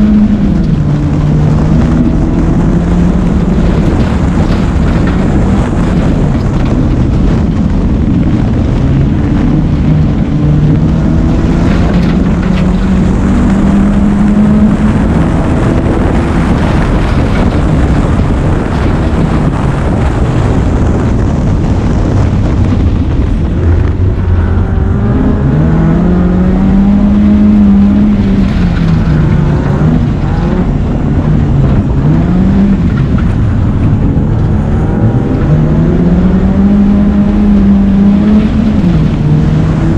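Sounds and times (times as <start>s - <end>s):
tyres on loose gravel: 0.0s - 24.5s, 26.6s - 35.9s
race car engine revving: 0.0s - 39.9s
wind noise: 0.0s - 39.9s.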